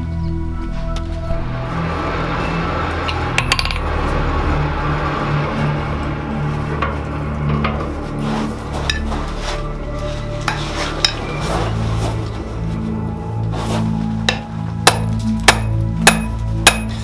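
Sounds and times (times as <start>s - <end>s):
forge humming and rushing: 0.4s - 17.0s.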